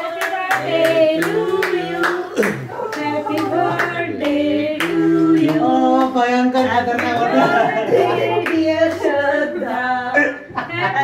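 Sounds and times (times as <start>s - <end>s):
group singing birthday song: 0.0s - 11.0s.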